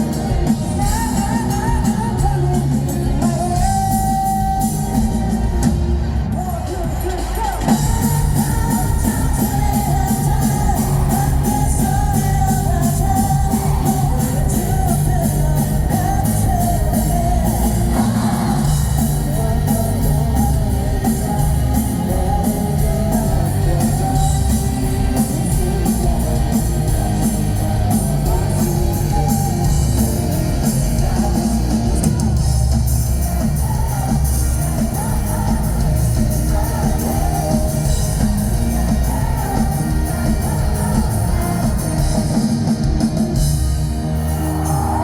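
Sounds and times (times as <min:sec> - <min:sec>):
drums keeping a steady beat: 0:00.0 - 0:45.0
electric guitar: 0:00.0 - 0:45.0
lead vocal singing: 0:00.0 - 0:45.0.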